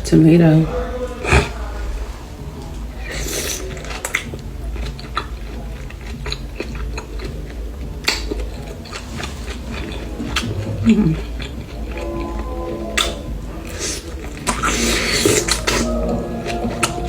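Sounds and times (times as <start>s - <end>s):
low hum: 0.0s - 17.0s
chewing and wet mouth sounds: 0.4s - 17.0s.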